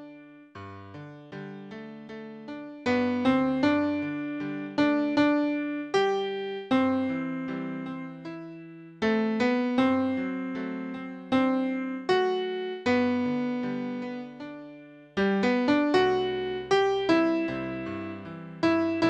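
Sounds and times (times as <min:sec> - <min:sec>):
piano hymn playback: 0:00.0 - 0:19.0.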